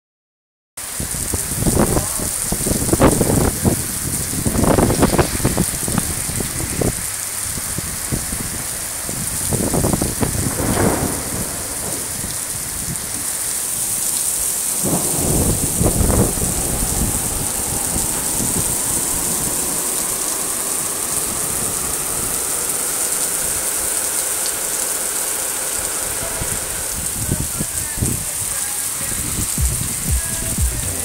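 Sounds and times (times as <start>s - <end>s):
heavy rain on pavement and cars: 0.8s - 31.0s
low rumbling surges: 0.8s - 31.0s.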